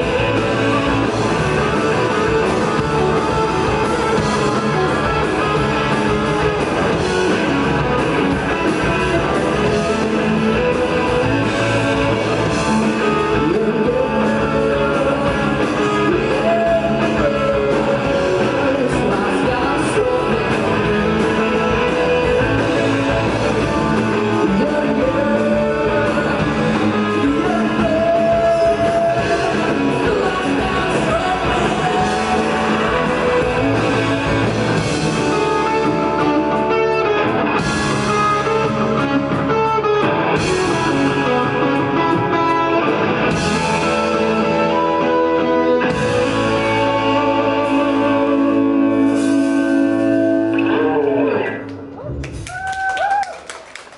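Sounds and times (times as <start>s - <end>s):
drum kit: 0.0s - 50.7s
electric guitars: 0.0s - 53.9s.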